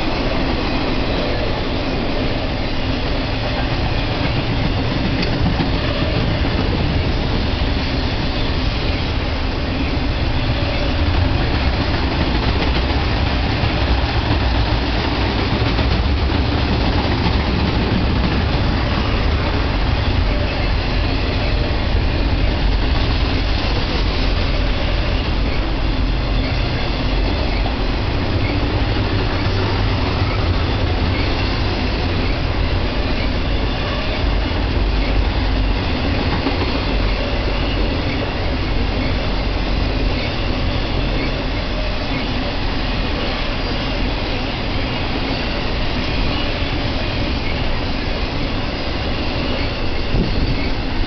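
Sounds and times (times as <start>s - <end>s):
train wheels rolling on rails: 0.0s - 51.0s.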